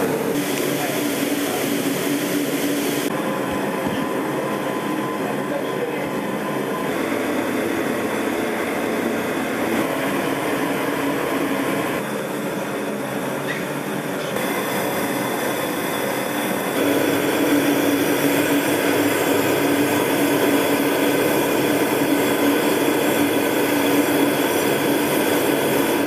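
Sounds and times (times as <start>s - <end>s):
mechanical rumble and hiss: 0.0s - 3.2s, 3.8s - 26.0s.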